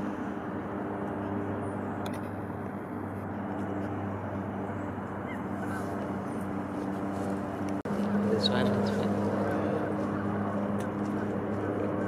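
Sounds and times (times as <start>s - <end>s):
low engine hum: 0.0s - 12.0s
outdoor background noise: 0.0s - 12.0s.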